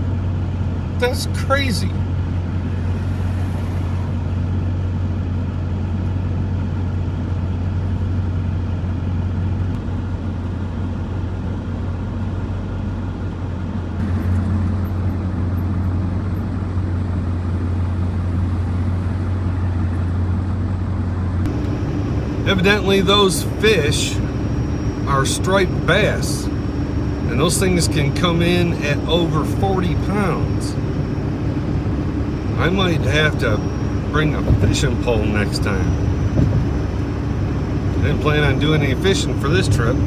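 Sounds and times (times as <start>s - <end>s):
road noise: 0.0s - 40.0s
vehicle engine drone: 0.0s - 40.0s.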